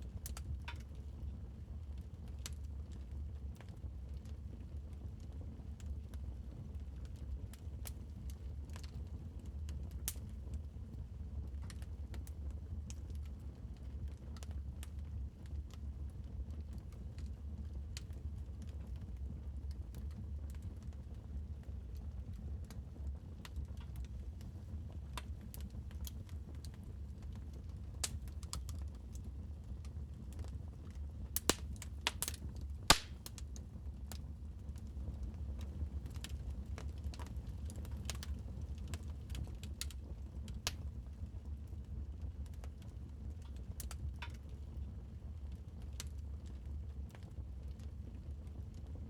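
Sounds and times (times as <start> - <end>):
wood fire crackling: 0.1 - 47.2.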